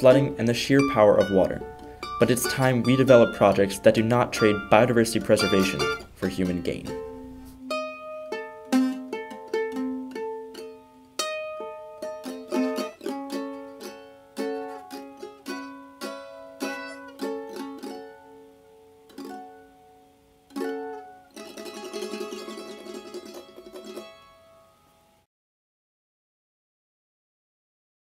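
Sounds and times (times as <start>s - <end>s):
plucked string melody: 0.0s - 25.2s.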